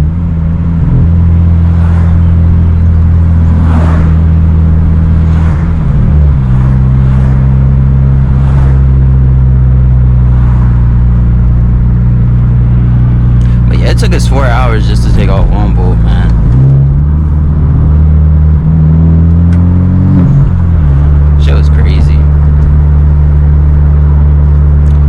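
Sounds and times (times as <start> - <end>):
car engine low drone: 0.0 - 25.0.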